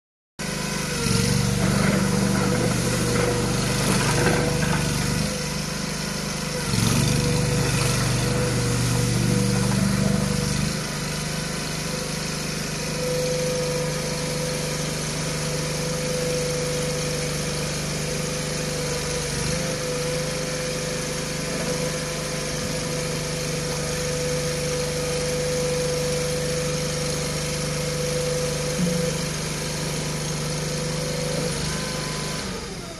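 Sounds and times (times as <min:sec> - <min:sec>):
small loader engine running: 0:00.4 - 0:32.9.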